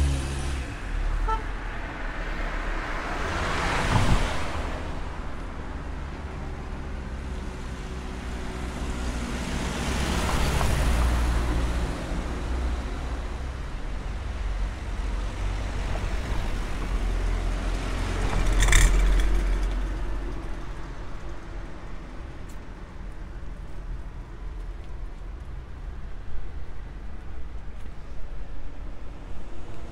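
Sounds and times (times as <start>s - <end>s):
vehicles driving past: 0.0s - 29.9s.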